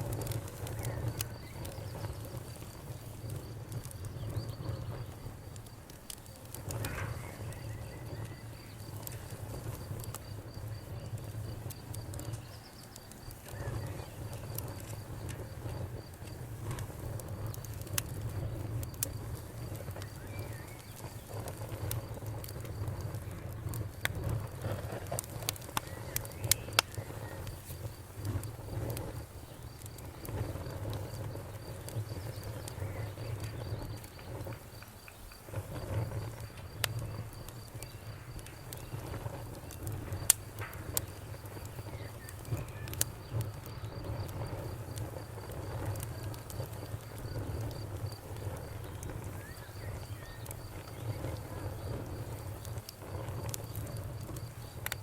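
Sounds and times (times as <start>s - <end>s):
wood fire crackling: 0.0s - 55.0s
crickets chirping: 0.1s - 55.0s.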